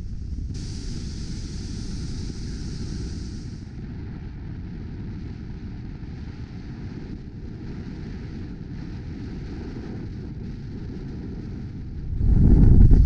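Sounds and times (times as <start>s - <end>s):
wind buffeting on camera: 0.0s - 13.0s.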